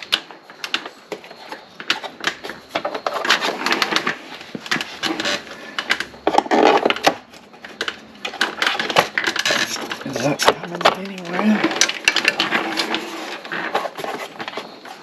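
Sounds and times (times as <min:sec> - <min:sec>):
rustling: 0:00.0 - 0:15.0
plastic clicks and knocks: 0:00.1 - 0:14.8.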